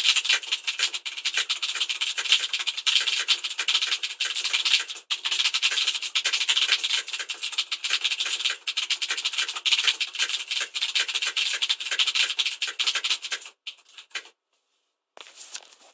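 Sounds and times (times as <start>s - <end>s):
fast typing on mechanical keyboard: 0.0s - 14.3s.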